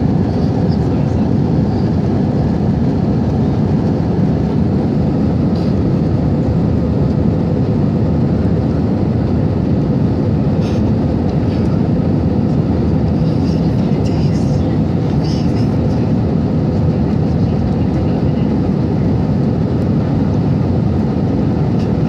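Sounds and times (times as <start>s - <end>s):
jet engines roaring in cabin: 0.0s - 22.0s.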